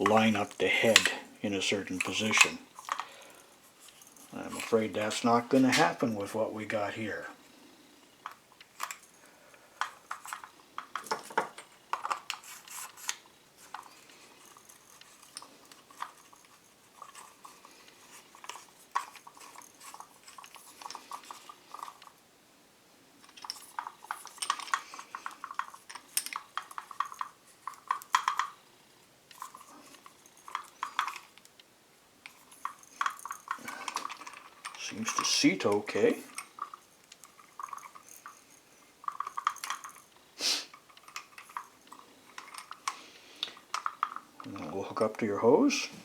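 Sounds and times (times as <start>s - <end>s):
hose fitting clicking and scraping: 0.0s - 6.9s, 9.8s - 22.2s, 23.2s - 28.6s, 29.3s - 45.7s.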